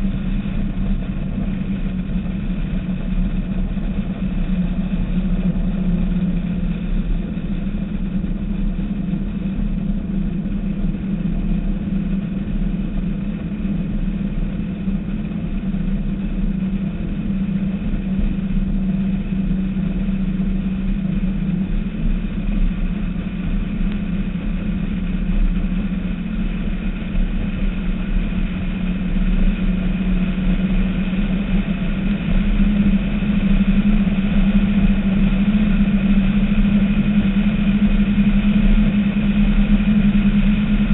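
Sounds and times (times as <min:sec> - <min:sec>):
powerboat engines droning: 0:00.0 - 0:40.9
wind: 0:00.0 - 0:40.9.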